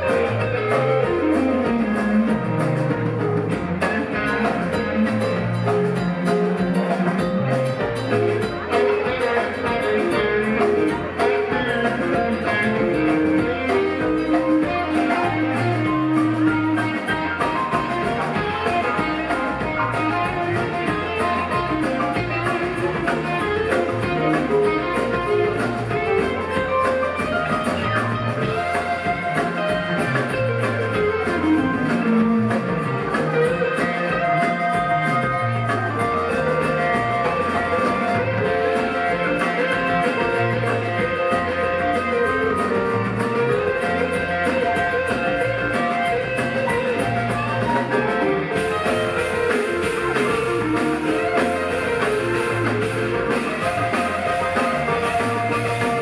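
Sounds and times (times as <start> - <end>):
bass: 0.0 - 56.0
drums: 0.0 - 56.0
electric lead guitar: 0.0 - 56.0
keyboards: 0.0 - 56.0.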